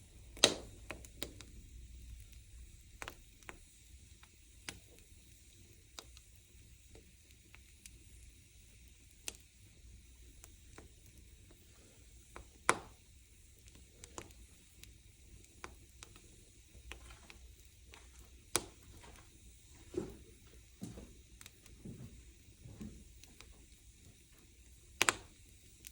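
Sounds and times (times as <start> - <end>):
loud fire pops: 0.0 - 25.9
wood fire crackling: 0.0 - 25.9.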